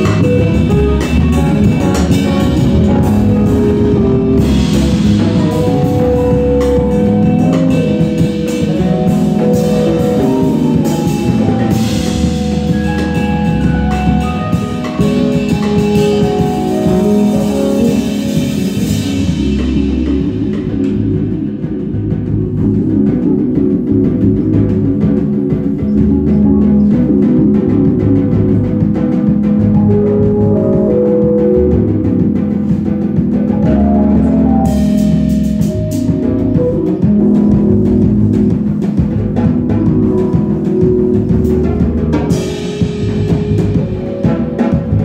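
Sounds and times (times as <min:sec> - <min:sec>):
busy drum beat: 0:00.0 - 0:45.0
electric bass: 0:00.0 - 0:45.0
keyboard synth melody: 0:00.0 - 0:45.0.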